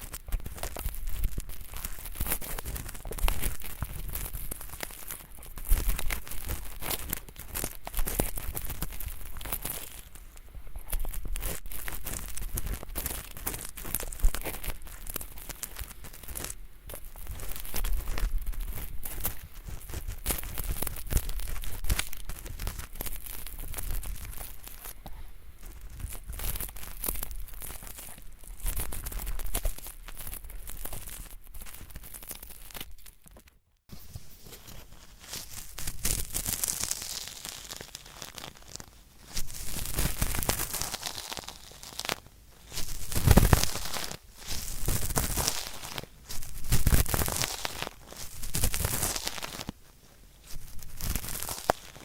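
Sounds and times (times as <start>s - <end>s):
cotton swab grinding on earwax: 0.0s - 33.3s, 34.4s - 52.0s
ear pick scraping earwax: 0.0s - 52.0s.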